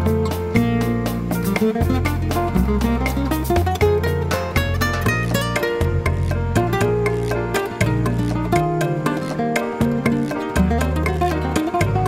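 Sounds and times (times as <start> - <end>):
held bass notes: 0.0 - 12.0
plucked string melody: 0.0 - 12.0.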